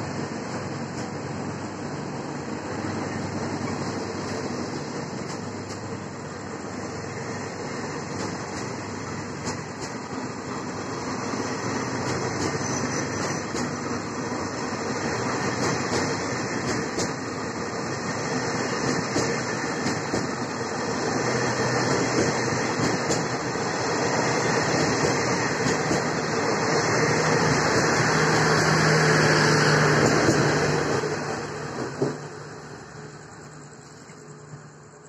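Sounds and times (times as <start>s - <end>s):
train wheels rolling on rails: 0.0s - 35.0s.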